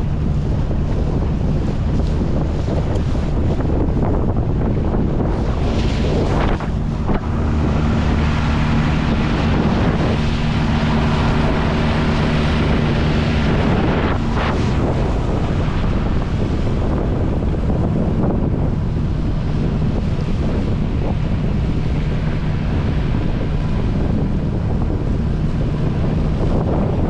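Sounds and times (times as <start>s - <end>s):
outboard motor running: 0.0s - 27.0s
water noise: 0.0s - 27.0s
wind buffeting microphone: 0.0s - 27.0s.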